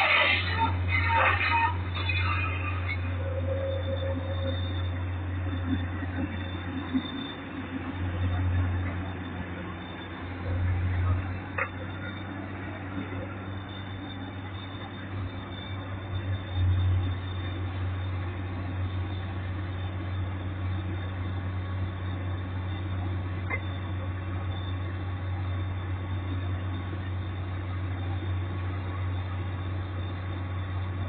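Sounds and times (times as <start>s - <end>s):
excavator diesel engine droning: 0.0s - 31.0s.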